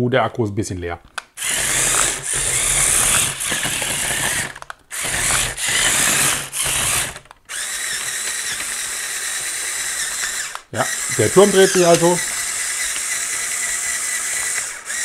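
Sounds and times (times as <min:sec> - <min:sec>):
toy tank motors whirring: 0:01.4 - 0:15.0.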